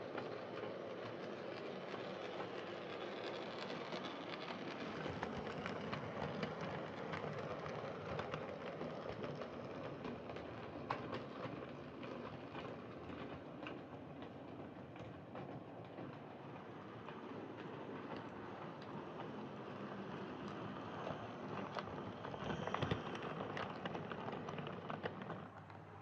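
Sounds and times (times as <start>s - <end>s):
wheels clicking over rail joints: 0.0s - 26.0s.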